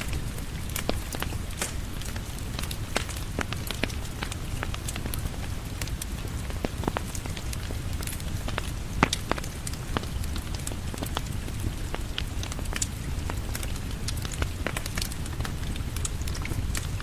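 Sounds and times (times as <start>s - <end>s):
rain falling on a porch: 0.0s - 17.0s
wood fire crackling and popping: 0.0s - 17.0s.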